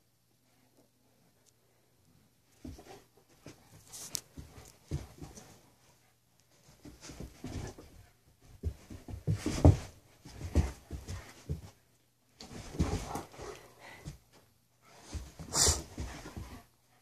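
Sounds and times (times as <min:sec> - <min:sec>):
dog paws thumping on carpet: 0:02.5 - 0:16.8.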